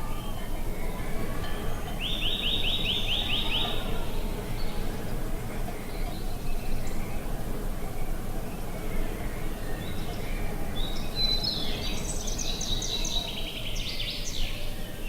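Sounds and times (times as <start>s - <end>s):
bird singing a trill: 0.0s - 7.3s, 8.9s - 15.0s
outdoor wind: 0.0s - 15.0s.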